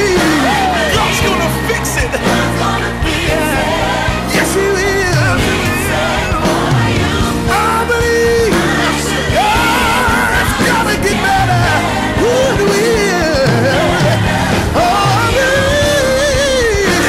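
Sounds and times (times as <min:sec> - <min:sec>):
band playing: 0:00.0 - 0:17.0
person singing gospel: 0:00.0 - 0:17.0.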